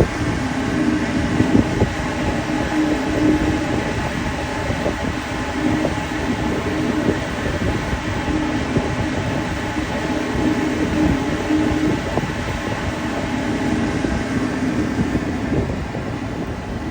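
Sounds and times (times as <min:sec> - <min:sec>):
ship machinery drone: 0:00.0 - 0:16.9.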